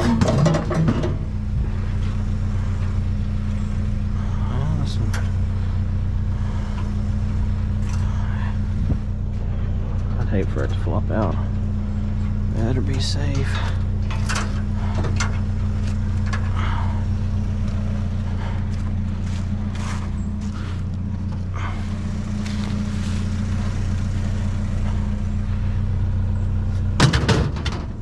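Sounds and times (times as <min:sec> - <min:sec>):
truck engine humming: 0:00.0 - 0:28.0.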